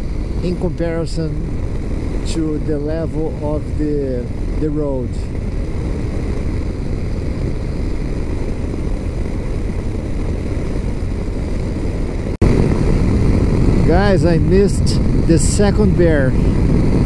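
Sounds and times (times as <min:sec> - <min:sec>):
motorcycle engine droning: 0:00.0 - 0:17.0
wind buffeting microphone: 0:00.0 - 0:17.0
wind rushing: 0:00.0 - 0:17.0.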